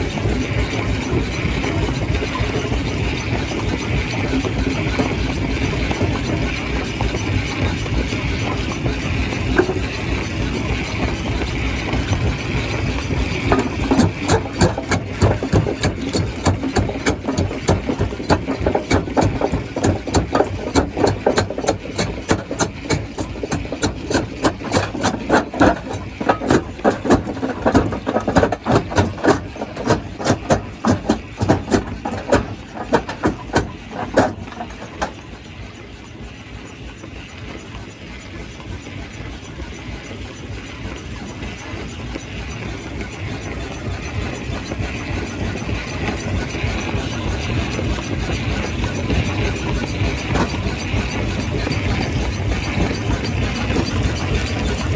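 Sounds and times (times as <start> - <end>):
stone crusher rumbling: 0.0 - 35.6, 42.8 - 54.9.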